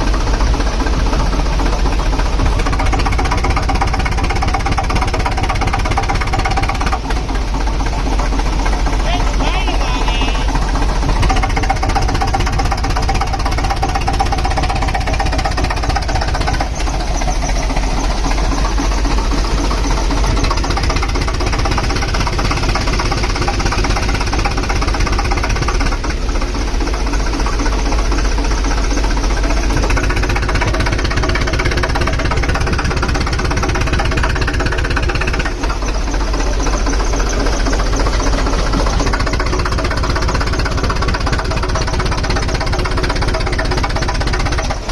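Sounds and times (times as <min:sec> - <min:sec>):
heavy compressor engine knocking: 0:00.0 - 0:44.9.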